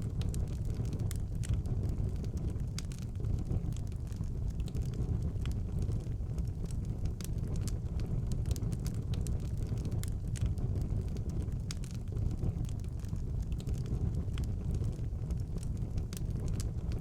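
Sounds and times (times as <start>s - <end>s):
fire crackling and popping: 0.0s - 17.0s
fire roaring in fireplace: 0.0s - 17.0s.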